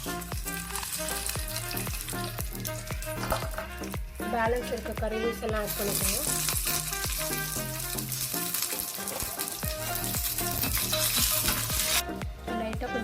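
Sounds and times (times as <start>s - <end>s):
leaves and chillies sizzling in oil: 0.0s - 12.1s
music with steady beat: 0.0s - 13.0s.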